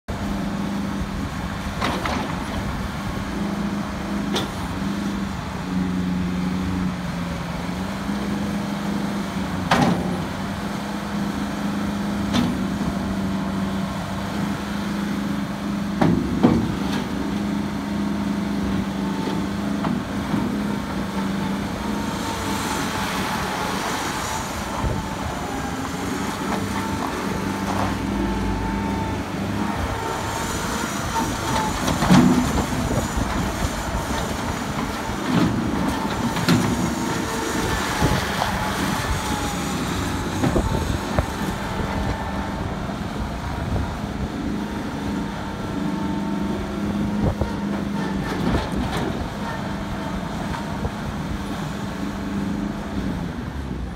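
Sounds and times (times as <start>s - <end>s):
diesel engine running: 0.1s - 53.9s.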